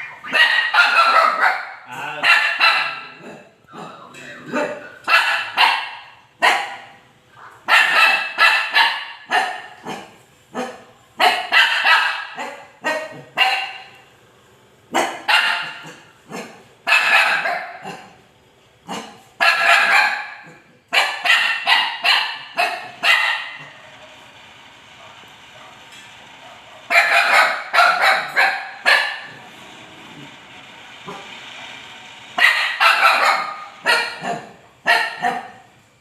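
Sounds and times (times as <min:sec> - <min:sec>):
dog barking: 0:00.0 - 0:14.0, 0:14.9 - 0:18.2, 0:18.9 - 0:24.2, 0:25.0 - 0:25.8, 0:26.4 - 0:29.4, 0:32.4 - 0:35.7.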